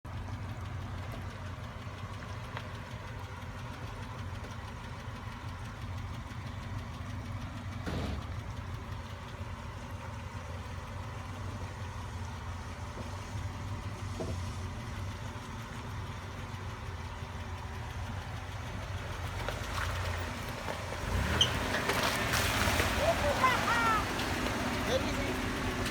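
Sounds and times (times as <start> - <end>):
vehicle engine running at low revs: 0.0 - 25.9.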